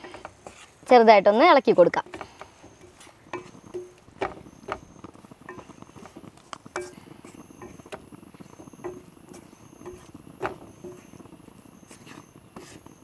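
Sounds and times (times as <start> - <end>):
wooden spatula scraping a pan: 0.0 - 13.0.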